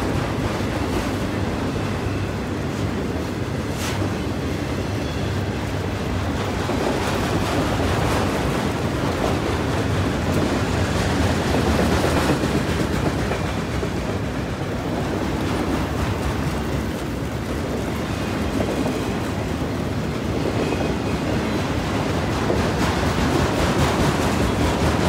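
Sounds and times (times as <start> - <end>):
steel wheels rolling on rails: 0.0 - 25.0.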